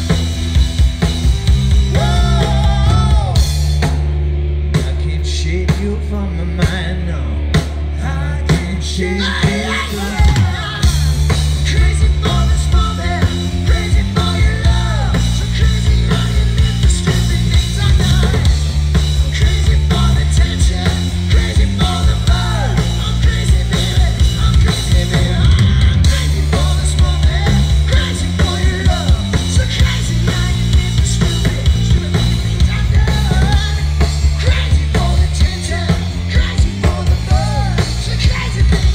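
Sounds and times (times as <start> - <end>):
bass guitar: 0.0 - 38.9
drum kit: 0.0 - 38.9
electric guitar: 0.0 - 38.9
person singing lead vocal: 1.8 - 3.7, 4.7 - 38.9.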